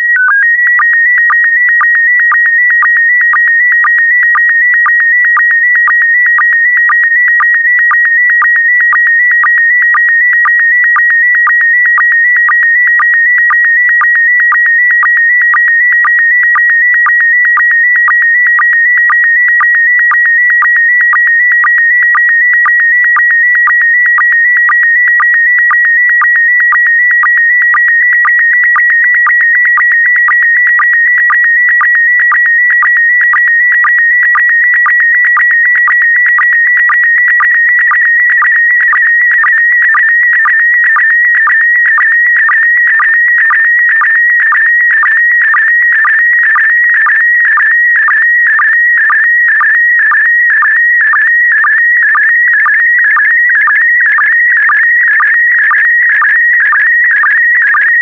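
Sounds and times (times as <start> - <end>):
wavering data tone: 0.0 - 58.0.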